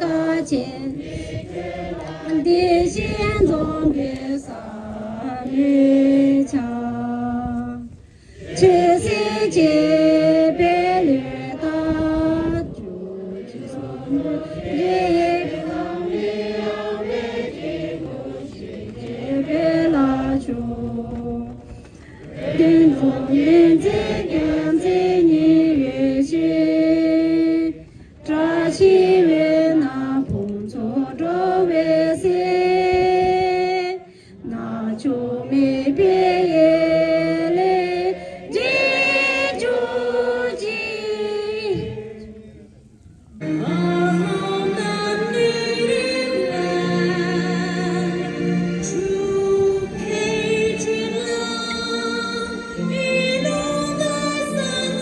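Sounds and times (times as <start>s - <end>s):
group singing prayer in unison: 0.0s - 55.0s.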